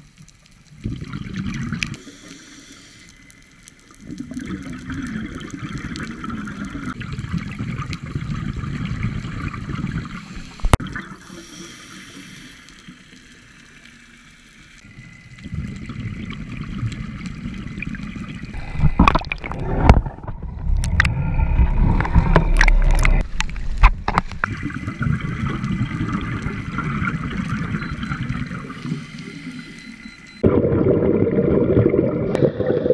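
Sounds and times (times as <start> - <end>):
underwater bubbles gurgling: 0.0 - 32.9.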